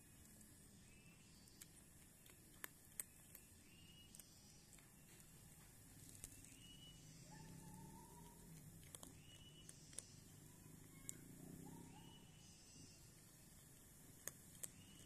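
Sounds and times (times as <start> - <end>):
faint high chirps: 0.0 - 1.9, 3.0 - 15.0
cat crunching dry food: 0.0 - 6.9, 7.5 - 11.7, 12.4 - 15.0.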